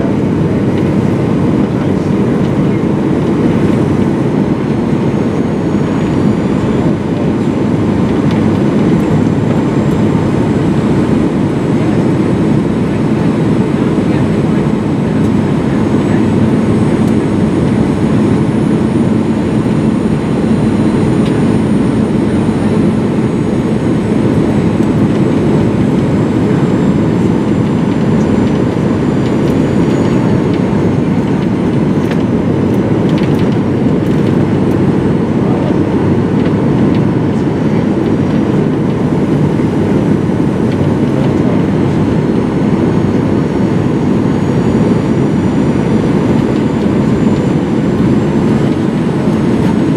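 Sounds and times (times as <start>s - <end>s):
airplane cabin roar: 0.0s - 49.9s.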